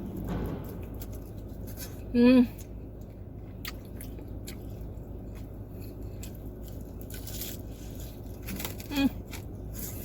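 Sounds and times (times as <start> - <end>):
steady low hum: 0.0 - 10.0
person chewing: 0.6 - 10.0.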